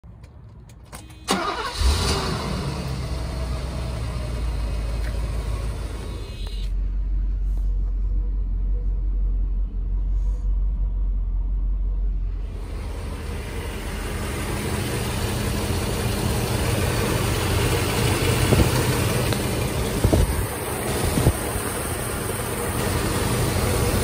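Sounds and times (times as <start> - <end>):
car engine starting and idling: 0.1 - 24.0.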